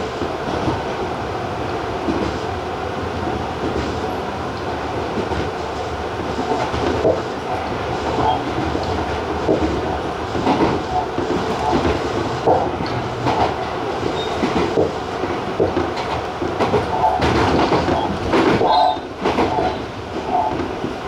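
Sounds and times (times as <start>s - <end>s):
train wheels rumbling on rail: 0.0s - 21.0s
clacks over rail joints: 0.2s - 1.0s, 3.6s - 21.0s.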